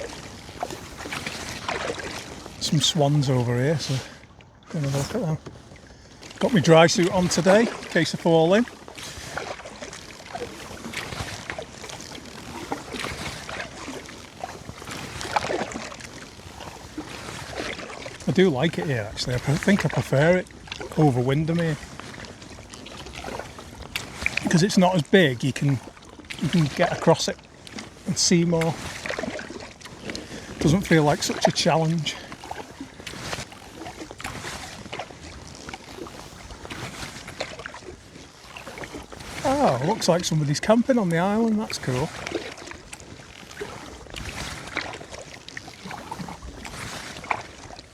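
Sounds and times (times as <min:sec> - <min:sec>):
paddle splashing water: 0:00.0 - 0:47.9
water dripping off paddle: 0:00.0 - 0:47.9.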